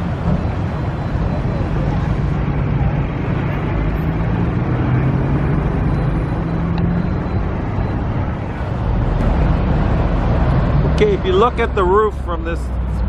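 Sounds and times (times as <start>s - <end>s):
road noise: 0.0s - 13.0s
vehicle engine droning: 0.0s - 13.0s.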